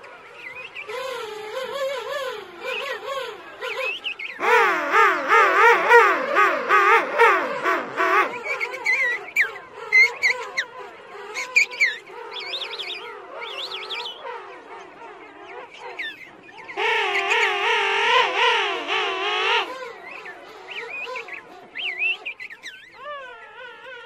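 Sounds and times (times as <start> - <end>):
penguins calling: 0.8 - 24.0.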